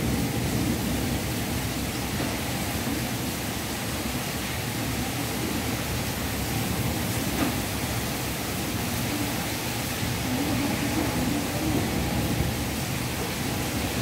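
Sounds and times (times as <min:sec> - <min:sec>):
heavy rain: 0:00.0 - 0:14.0
wind: 0:00.0 - 0:14.0.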